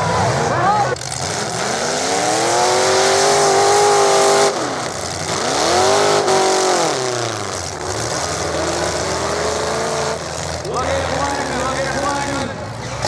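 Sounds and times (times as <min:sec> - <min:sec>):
car engine revving high: 0:00.0 - 0:13.0.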